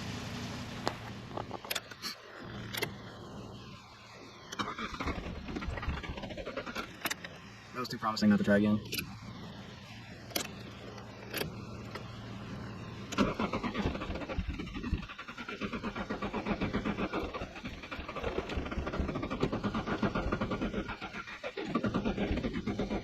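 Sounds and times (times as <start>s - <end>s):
steady low hum: 0.0s - 23.0s
car engine cranking: 0.1s - 3.8s, 4.5s - 23.0s.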